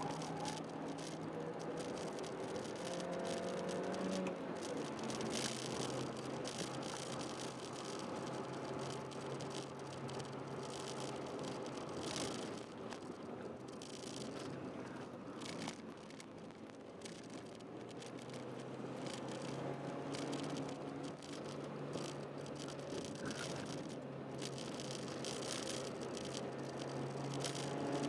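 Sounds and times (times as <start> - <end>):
car engine from inside cabin: 0.0 - 28.0.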